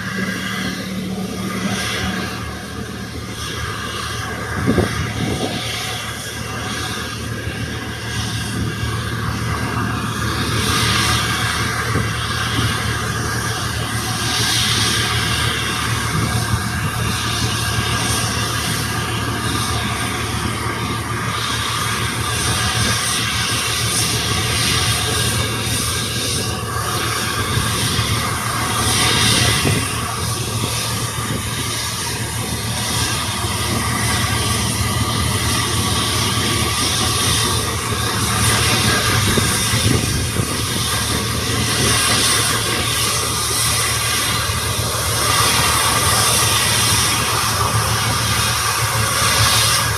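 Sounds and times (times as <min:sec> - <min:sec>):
jet engine rushing: 0:00.0 - 0:49.9.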